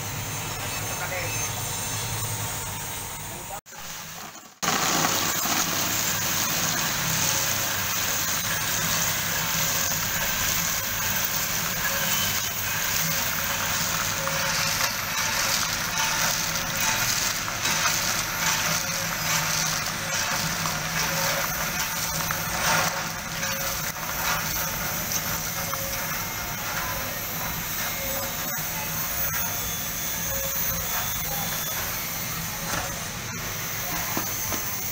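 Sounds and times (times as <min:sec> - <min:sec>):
beans rattling in a roaster: 0:03.8 - 0:33.0.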